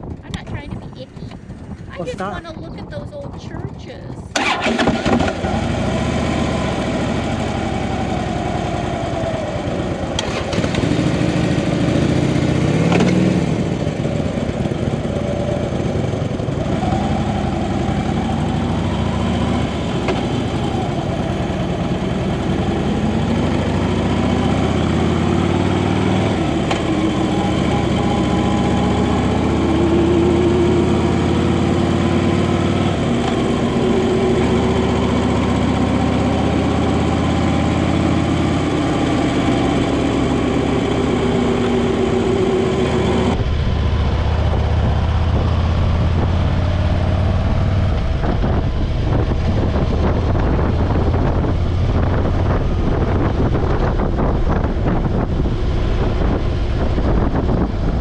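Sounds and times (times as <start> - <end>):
gusty wind noise: 0.0 - 58.0
motorcycle engine: 0.0 - 58.0.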